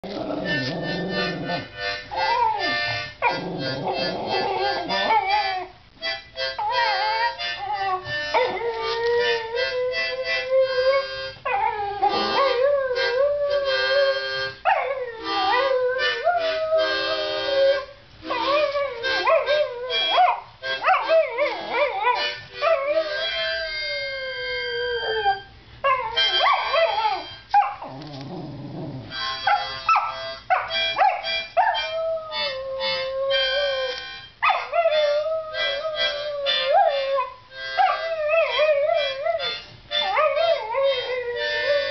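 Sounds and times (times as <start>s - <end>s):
harmonica chords: 0.0s - 28.2s, 29.1s - 41.9s
dog howling: 6.7s - 29.7s, 30.6s - 41.9s.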